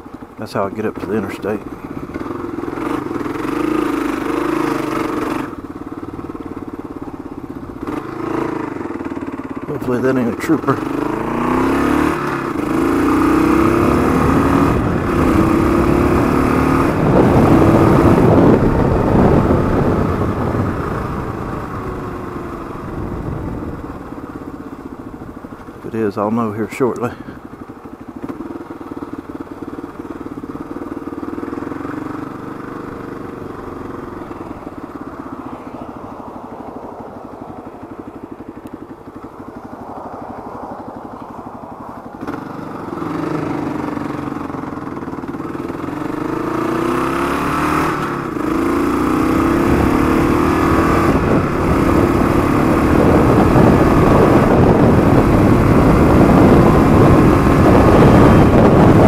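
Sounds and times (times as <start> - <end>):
motorcycle engine accelerating: 0.0 - 59.0
motorcycle shifting gears: 0.1 - 59.0.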